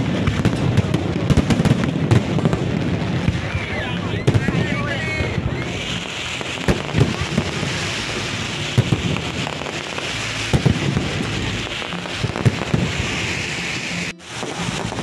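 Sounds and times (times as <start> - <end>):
spark fountains hissing: 0.0 - 15.0.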